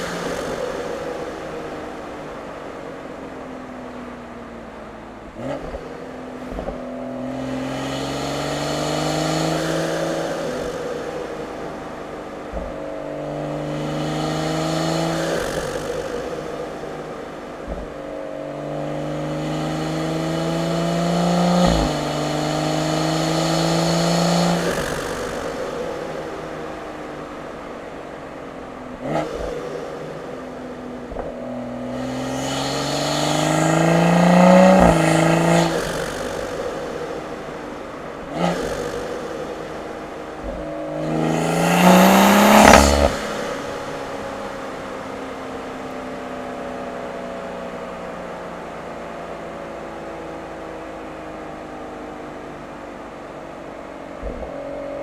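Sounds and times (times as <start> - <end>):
exhaust cracks: 0.0 - 46.8
car engine revving under acceleration: 0.0 - 55.0.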